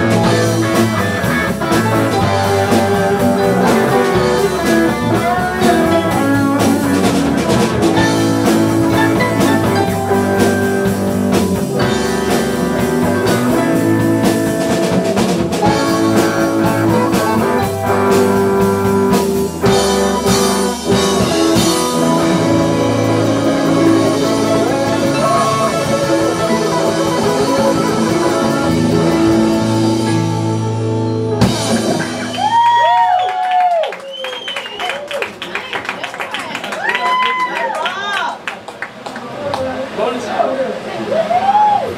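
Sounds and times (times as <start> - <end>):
live blues-rock band: 0.0 - 35.0.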